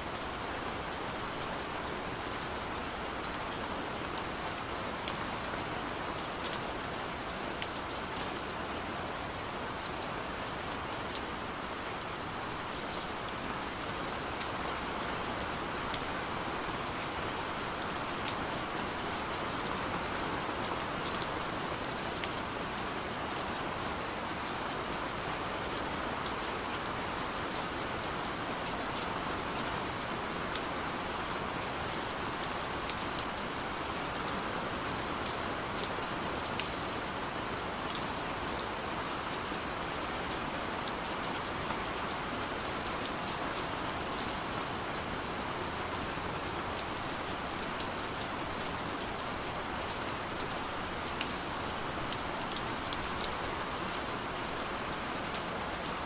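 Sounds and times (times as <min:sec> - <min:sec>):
gentle rain falling: 0:00.0 - 0:56.0.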